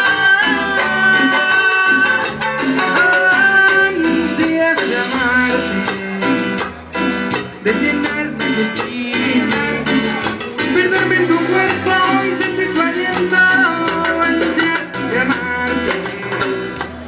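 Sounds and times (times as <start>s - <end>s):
guitars: 0.0s - 17.0s
steady percussion beat: 0.0s - 17.0s.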